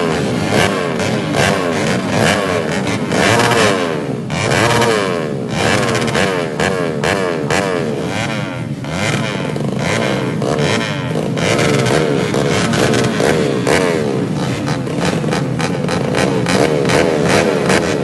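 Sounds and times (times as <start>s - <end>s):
motorcycle engines revving hard: 0.0s - 18.0s.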